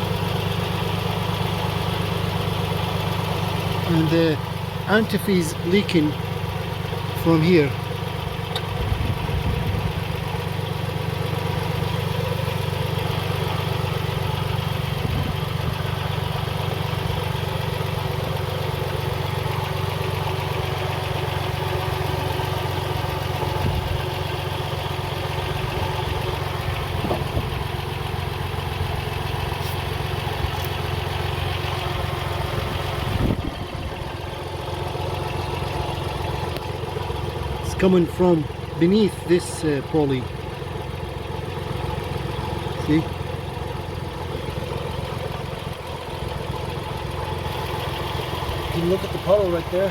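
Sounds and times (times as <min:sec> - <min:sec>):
car engine idling with belts turning: 0:00.0 - 0:49.9.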